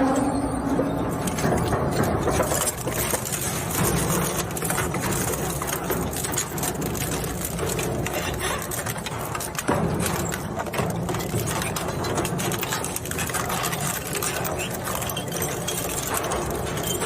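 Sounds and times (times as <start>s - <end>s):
blades clattering and crunching: 1.0s - 17.0s.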